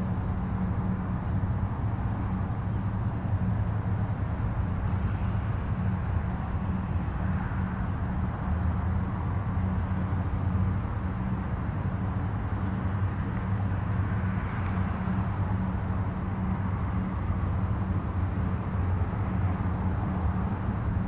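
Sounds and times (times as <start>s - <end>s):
distant highway traffic: 0.0s - 21.0s.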